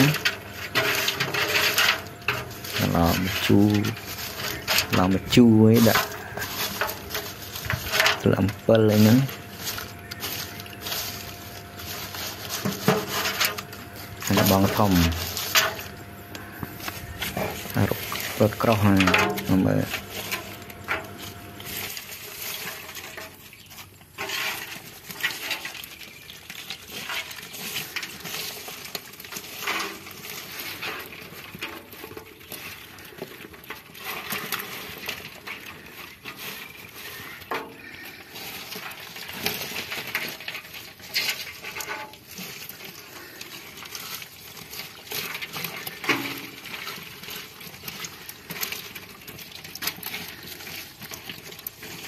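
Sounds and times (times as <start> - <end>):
wet leaves and twigs rustling: 0.0 - 52.0.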